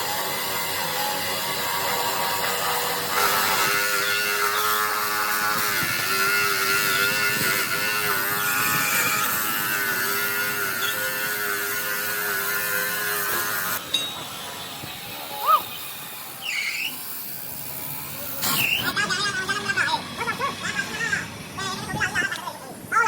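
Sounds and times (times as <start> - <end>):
power tool motor humming: 0.0 - 22.0.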